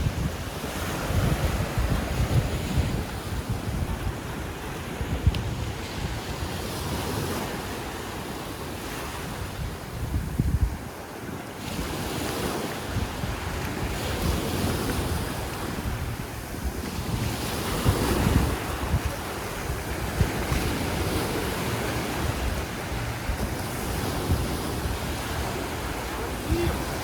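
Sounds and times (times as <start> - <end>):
sea waves washing onto beach: 0.0 - 27.0
wind buffeting microphone: 0.0 - 27.0.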